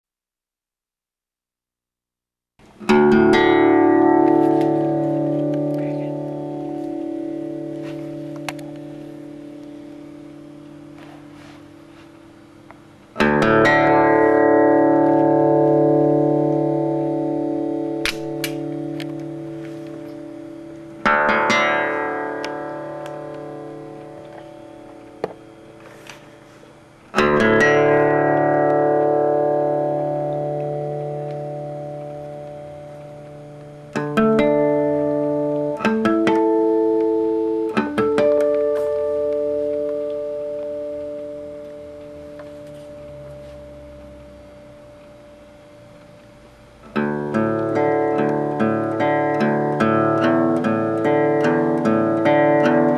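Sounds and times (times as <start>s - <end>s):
guitar chords ringing: 2.6s - 52.9s.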